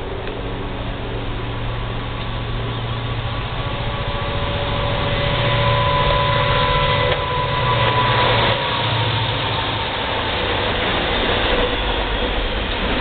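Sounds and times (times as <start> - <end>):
diesel locomotives passing: 0.0 - 13.0
thin steady whine: 0.0 - 13.0.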